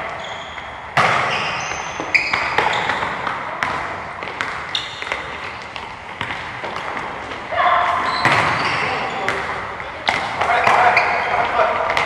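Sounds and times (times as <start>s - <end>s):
shoes squeaking on floor: 0.0s - 3.6s, 4.2s - 12.0s
soccer ball kicked and bouncing: 1.0s - 12.0s.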